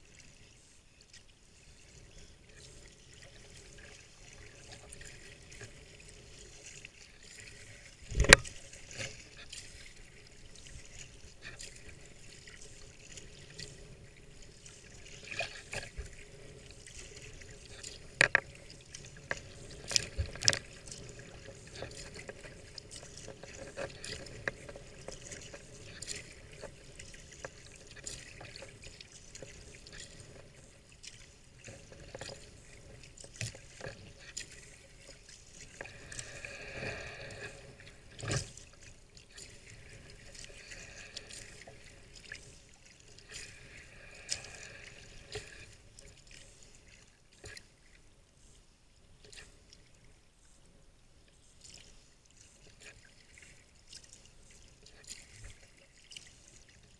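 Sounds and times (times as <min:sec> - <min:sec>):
paddle blades dipping and dripping: 0:00.0 - 0:56.9
small waves lapping at hull: 0:00.0 - 0:56.9.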